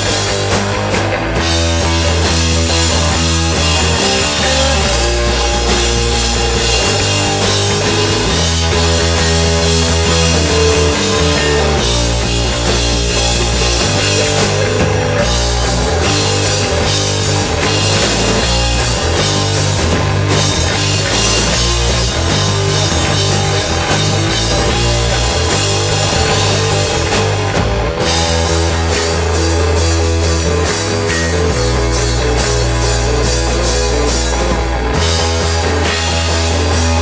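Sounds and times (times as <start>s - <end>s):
bass line: 0.0s - 37.0s
rock band playing live: 0.0s - 37.0s.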